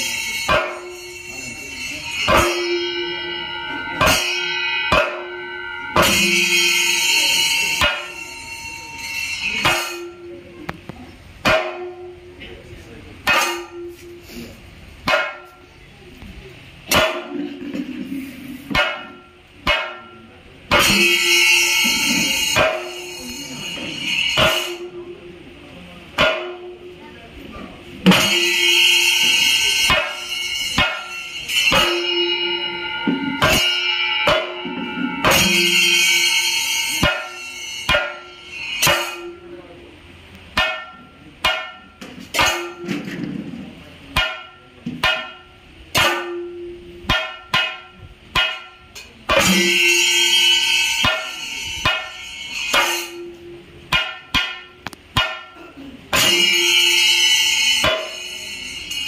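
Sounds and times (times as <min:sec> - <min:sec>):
cymbals ringing: 0:00.0 - 0:59.0
drum stick strokes and rolls: 0:00.0 - 0:59.0.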